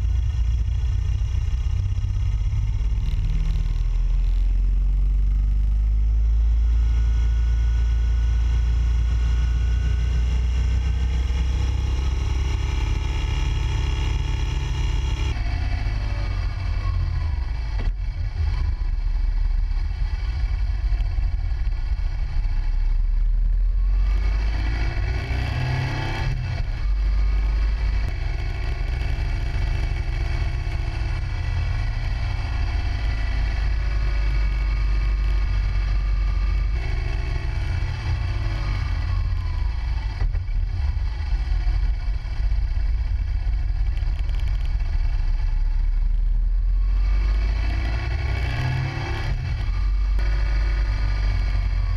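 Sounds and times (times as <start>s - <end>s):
motorcycle engine revving: 0.0s - 51.9s
wind rumble on microphone: 8.9s - 51.9s.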